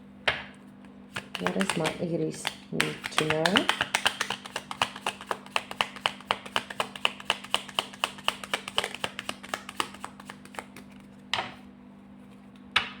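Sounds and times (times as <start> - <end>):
cards being shuffled: 0.8 - 11.3.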